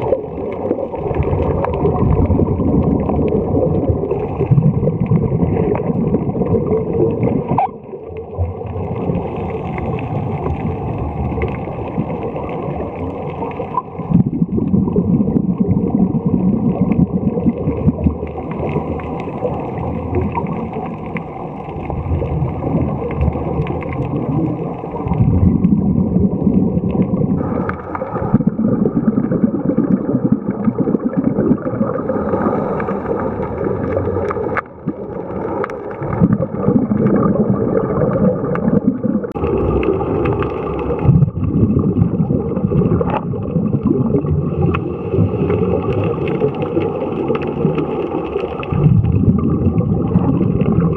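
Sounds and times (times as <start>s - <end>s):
low rumble of water: 0.0s - 50.9s
underwater bubbles gurgling: 0.0s - 50.9s.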